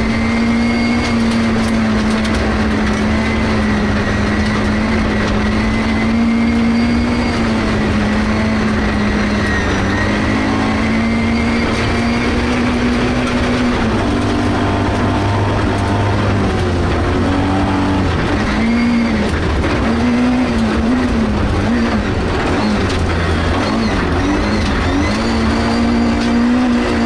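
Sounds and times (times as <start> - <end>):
rally car engine revving: 0.0 - 27.0
tyres rumbling on gravel: 0.0 - 27.0.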